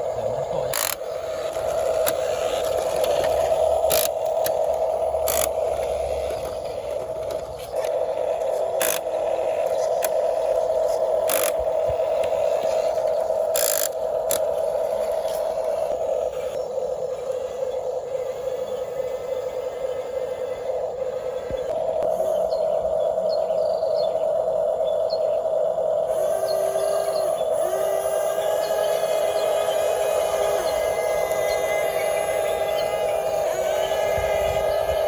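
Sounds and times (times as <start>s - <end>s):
toy electric motors whining: 0.0s - 35.0s.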